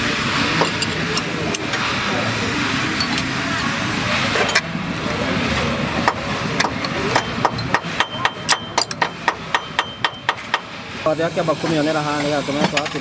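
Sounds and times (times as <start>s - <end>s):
steady mechanical noise: 0.0s - 13.0s.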